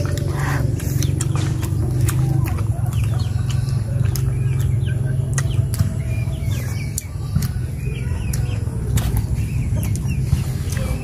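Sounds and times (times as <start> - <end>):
clicks of snails being eaten: 0.0 - 11.0
small birds chirping: 0.0 - 11.0
steady low rumble: 0.0 - 11.0.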